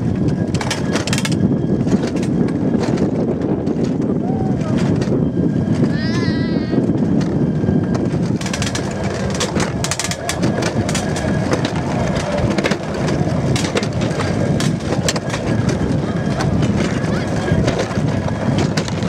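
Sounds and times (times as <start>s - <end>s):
sled wheels rumbling on track: 0.0s - 19.0s.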